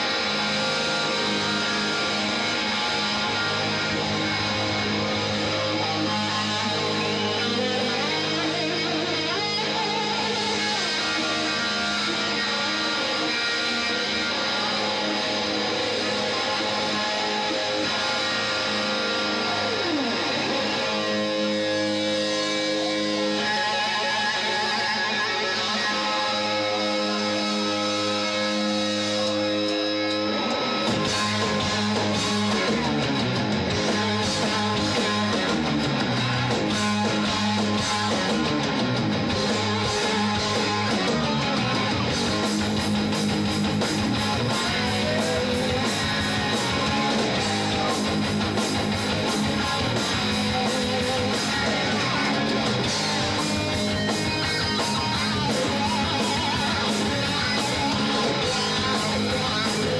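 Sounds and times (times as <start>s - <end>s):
distorted electric guitars: 0.0s - 59.9s
drum kit: 0.0s - 59.9s
rock band playing live: 0.0s - 59.9s.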